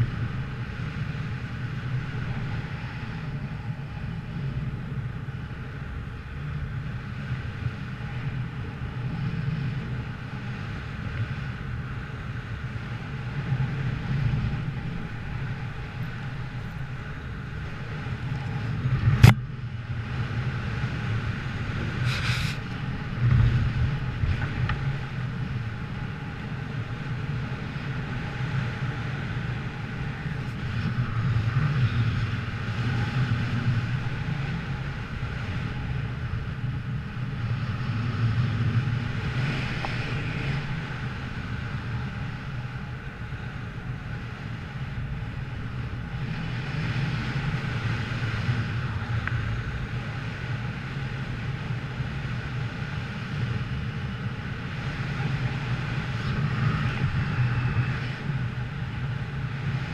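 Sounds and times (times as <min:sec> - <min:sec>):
vehicle engine droning: 0:00.0 - 0:59.9
wind noise on microphone: 0:00.0 - 0:59.9.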